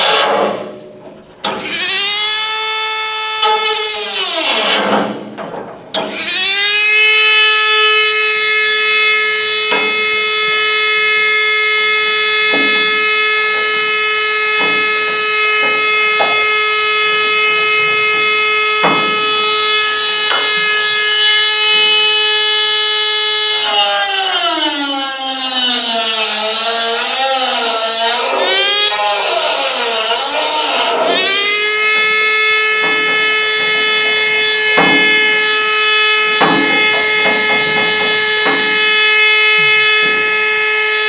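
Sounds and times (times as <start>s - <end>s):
cut-off tool whining: 1.4s - 5.0s, 6.0s - 41.0s.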